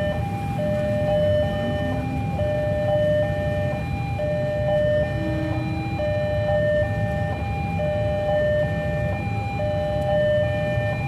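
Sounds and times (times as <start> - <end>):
road traffic rumble: 0.0 - 11.0
two-tone crossing alarm: 0.0 - 11.0.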